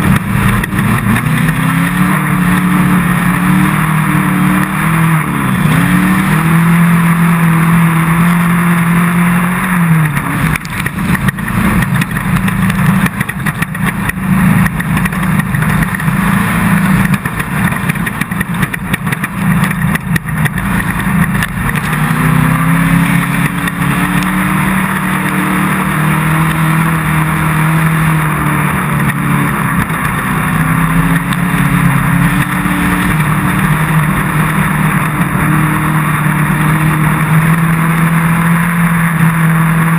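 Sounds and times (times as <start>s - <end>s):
car knocking and rattling: 0.0s - 39.9s
race car engine running hard: 0.0s - 39.9s.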